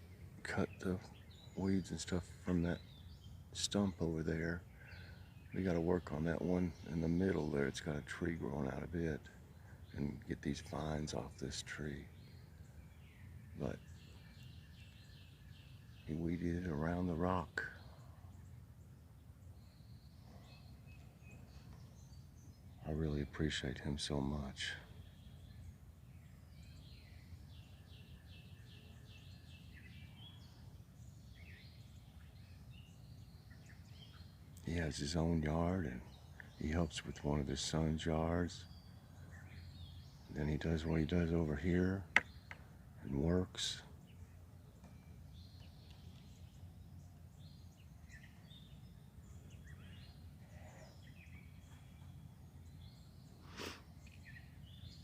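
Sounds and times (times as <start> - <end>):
faint songbirds singing: 0.0 - 55.0.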